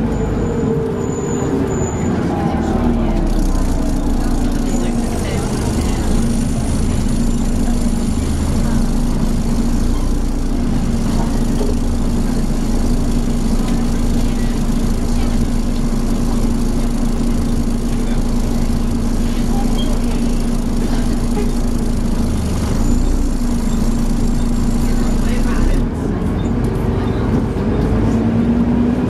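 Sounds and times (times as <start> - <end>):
diesel bus engine idling: 0.0 - 29.0.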